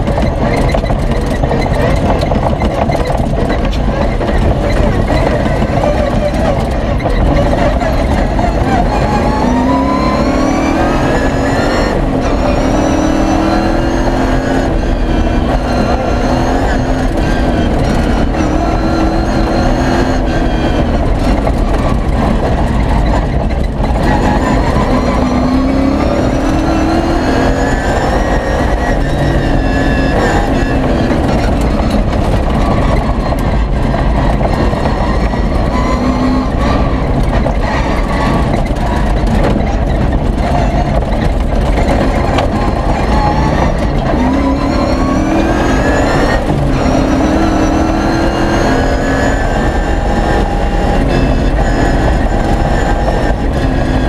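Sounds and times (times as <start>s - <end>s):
engine revving through gears: 0.0s - 54.0s
tyres rumbling on gravel: 0.0s - 54.0s.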